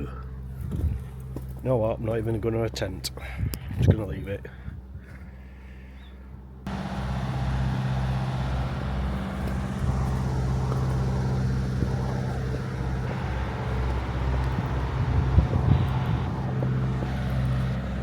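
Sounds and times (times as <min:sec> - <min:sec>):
vehicle engine running: 0:00.0 - 0:03.2, 0:06.3 - 0:18.0.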